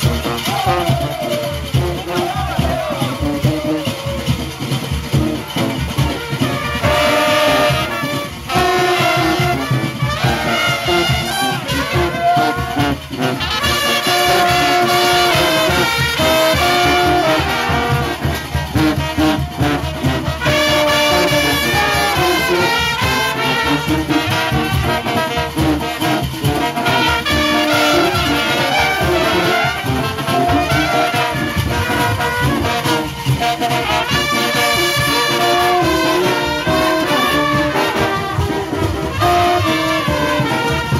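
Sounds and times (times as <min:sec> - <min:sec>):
brass band melody: 0:00.0 - 0:40.9
drums beating: 0:00.0 - 0:40.9.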